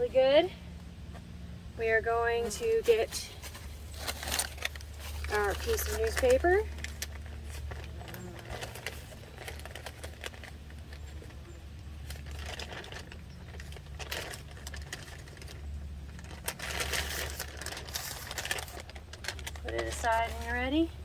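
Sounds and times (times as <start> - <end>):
newspaper rustling and crinkling: 2.4 - 21.0.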